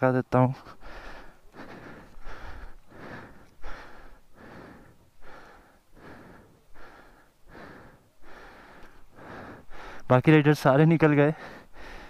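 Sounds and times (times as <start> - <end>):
quick heavy breathing: 0.5 - 10.1, 11.2 - 12.0.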